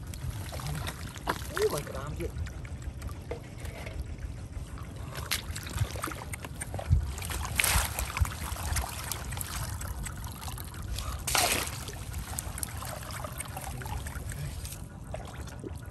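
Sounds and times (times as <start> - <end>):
water splashes: 0.0 - 3.4, 5.0 - 15.8
muddy water sloshing and trickling: 0.0 - 15.9.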